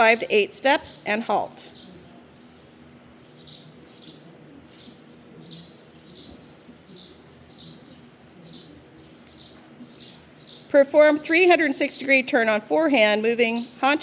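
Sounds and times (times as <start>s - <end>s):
bird chirping: 0.0s - 14.0s
faint background noise: 0.0s - 14.0s.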